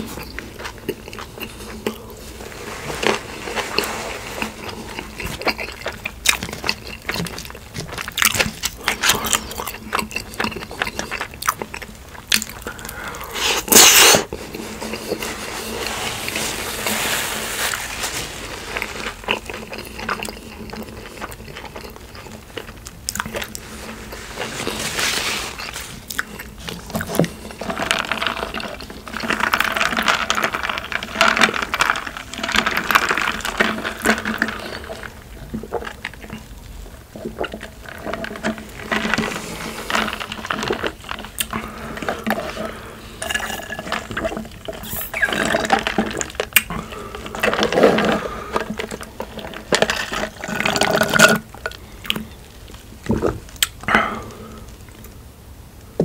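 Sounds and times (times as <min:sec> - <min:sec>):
wet chewing mouth sounds: 0:00.0 - 0:16.7, 0:18.6 - 0:52.4.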